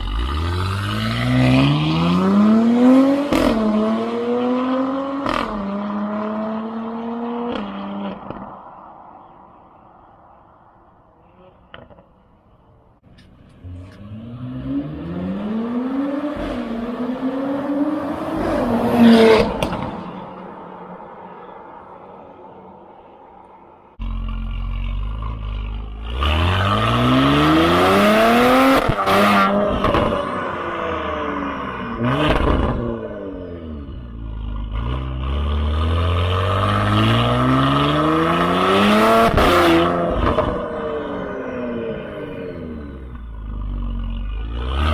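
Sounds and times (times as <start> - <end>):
car engine accelerating hard: 0.0 - 9.4, 13.5 - 21.6, 24.0 - 44.9.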